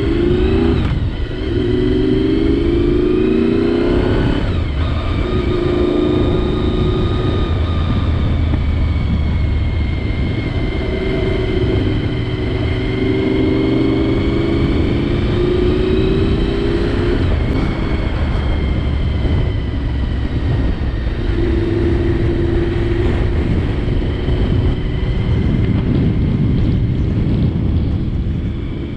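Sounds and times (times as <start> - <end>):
motorcycle engine running: 0.0 - 28.9
wind rushing over microphone: 0.0 - 28.9.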